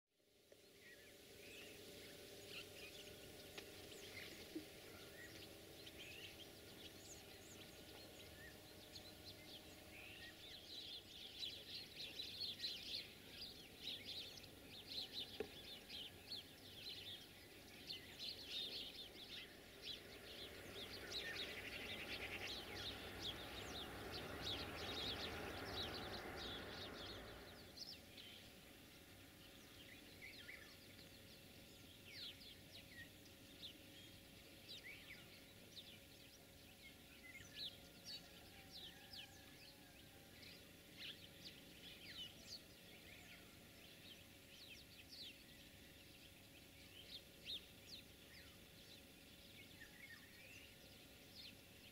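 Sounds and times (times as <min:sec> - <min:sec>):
broad steady hiss: 0:00.3 - 0:51.9
small birds chirping and singing: 0:00.3 - 0:51.9.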